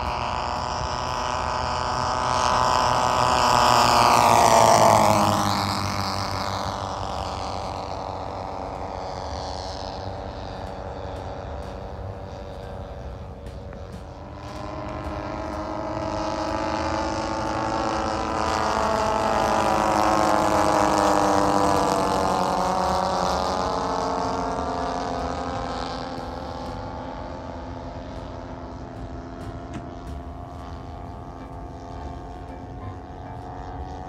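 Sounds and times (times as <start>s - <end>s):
propeller plane flying past: 0.0s - 34.0s.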